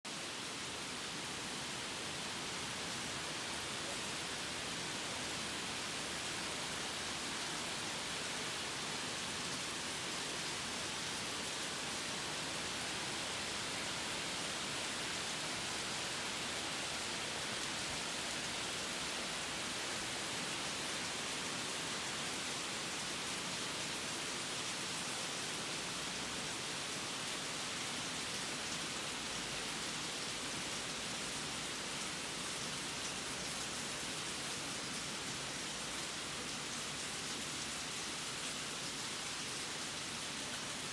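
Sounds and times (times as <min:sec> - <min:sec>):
patter of raindrops: 0:00.1 - 0:40.9
steady rain hiss: 0:00.1 - 0:40.9.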